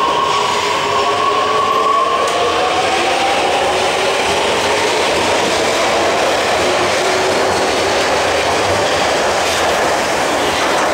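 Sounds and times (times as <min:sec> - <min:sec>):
metro train wheels rushing: 0:00.0 - 0:10.9.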